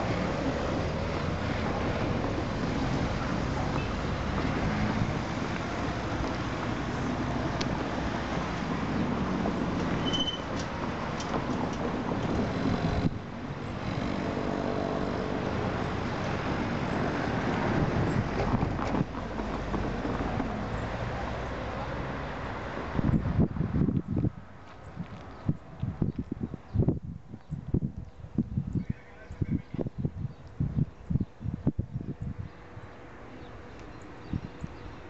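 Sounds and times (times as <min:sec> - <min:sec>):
wind buffeting microphone: 0:00.0 - 0:21.6, 0:22.4 - 0:35.0.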